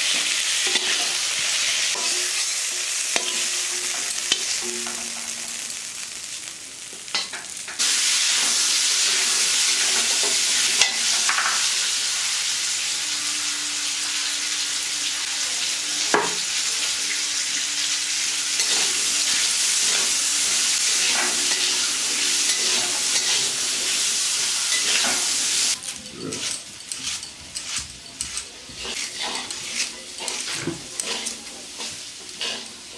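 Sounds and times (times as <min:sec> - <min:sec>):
food sizzling in hot oil: 0:00.0 - 0:32.9.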